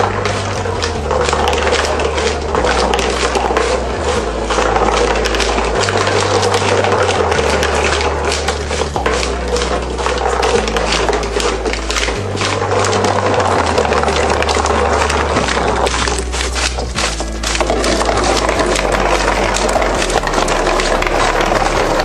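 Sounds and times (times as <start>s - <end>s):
background music with bass line: 0.0s - 22.0s
glass marbles clicking and rattling: 0.0s - 22.0s.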